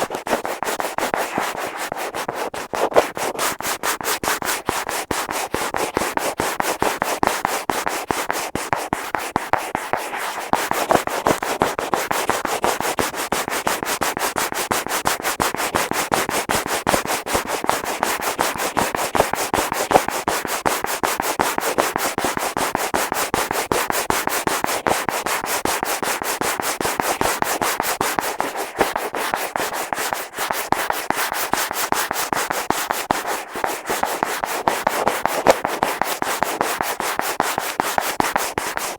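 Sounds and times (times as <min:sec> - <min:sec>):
fingers scratching on a microphone: 0:00.0 - 0:38.9.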